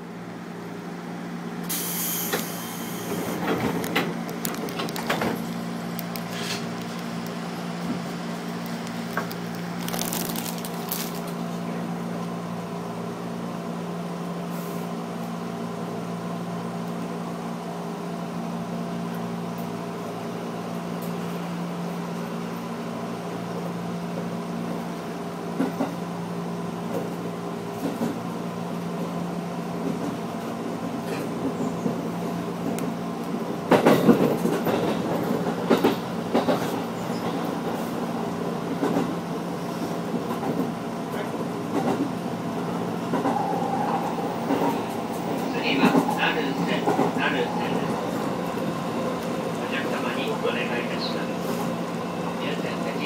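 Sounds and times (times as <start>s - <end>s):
train electrical hum: 0.0s - 53.0s.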